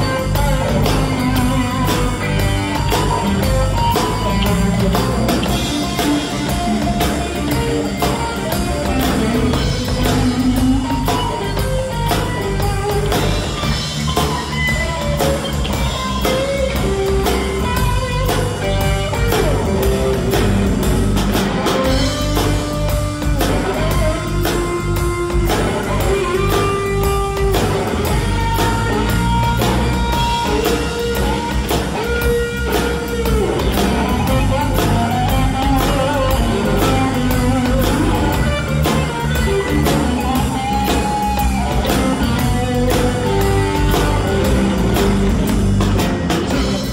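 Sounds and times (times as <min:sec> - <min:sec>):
drum kit beat: 0:00.0 - 0:46.9
electric bass: 0:00.0 - 0:46.9
electric guitar: 0:00.0 - 0:46.9.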